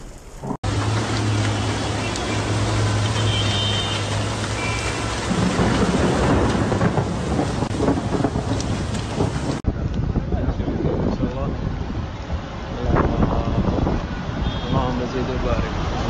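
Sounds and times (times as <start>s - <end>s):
floodwater rushing: 0.0s - 9.6s, 11.0s - 16.0s.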